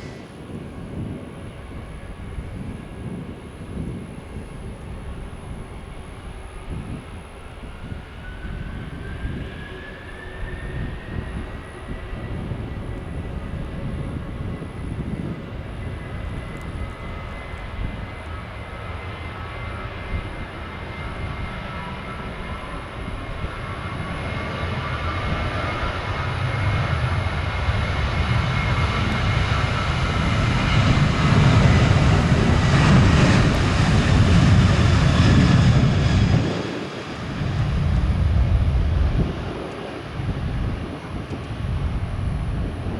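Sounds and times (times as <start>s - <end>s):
jet engines whining: 0.0s - 3.4s, 5.5s - 42.9s.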